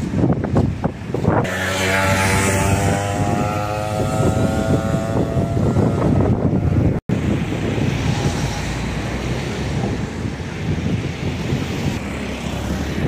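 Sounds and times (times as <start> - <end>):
road traffic drone: 0.0 - 13.0
wind rumble on microphone: 0.0 - 13.0.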